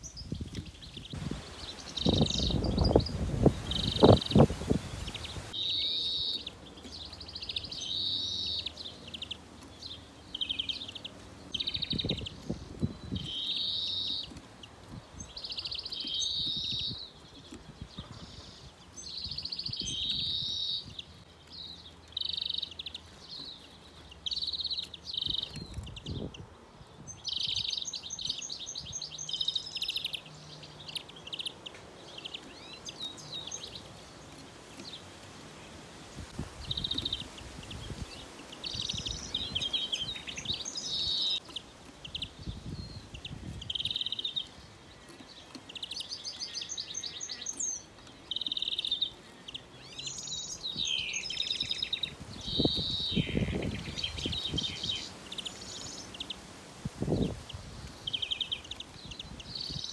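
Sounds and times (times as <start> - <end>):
bird chirping: 0.0 - 35.7, 36.6 - 56.4, 57.0 - 59.9.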